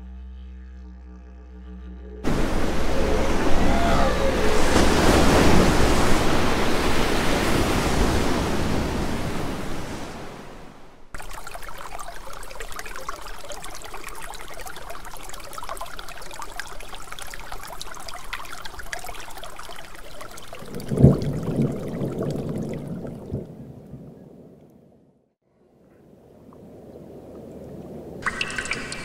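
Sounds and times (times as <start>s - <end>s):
deep water splash: 2.2s - 24.2s, 26.7s - 29.0s
water splashing and trickling: 2.2s - 24.2s, 26.4s - 29.0s.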